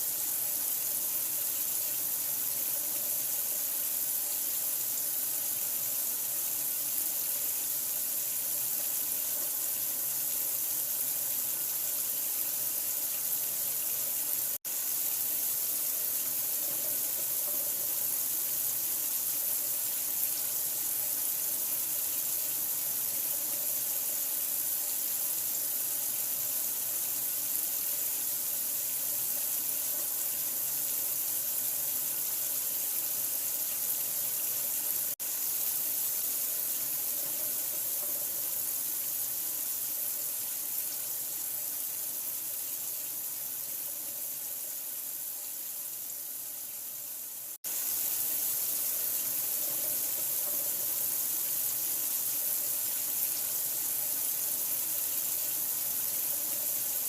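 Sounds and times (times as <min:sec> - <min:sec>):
running water hiss: 0:00.0 - 0:57.0.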